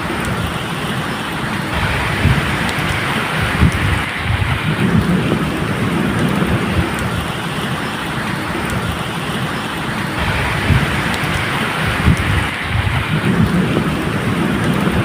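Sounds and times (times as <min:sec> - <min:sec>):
steady rain falling: 0:00.0 - 0:15.0
thunder rumbling: 0:00.0 - 0:15.0.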